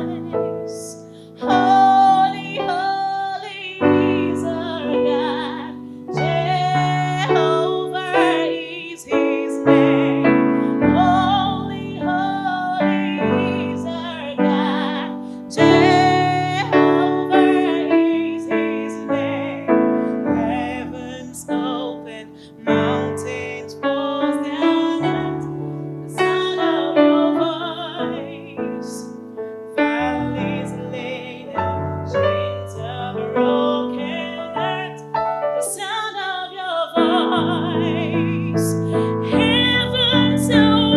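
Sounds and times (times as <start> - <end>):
person singing: 0.0 - 29.2, 29.8 - 40.9
piano playing chords: 0.0 - 40.9.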